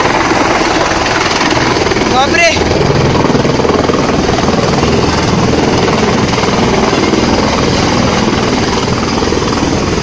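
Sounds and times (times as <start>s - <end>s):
helicopter rotor and turbine: 0.0s - 10.0s.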